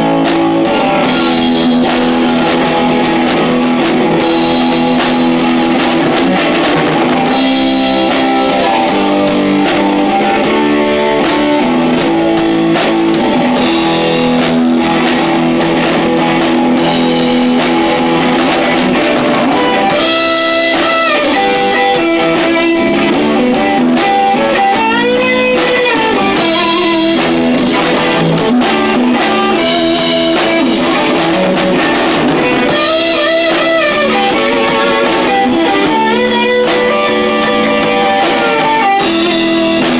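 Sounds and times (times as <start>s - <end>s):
bass guitar: 0.0s - 39.9s
drum kit with cymbals: 0.0s - 39.9s
electric guitar: 0.0s - 39.9s.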